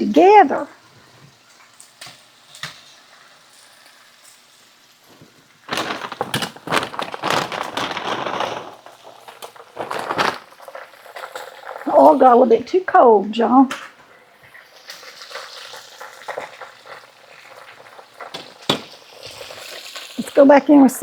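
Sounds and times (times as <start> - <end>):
fries sizzling in hot oil: 0.0 - 21.0.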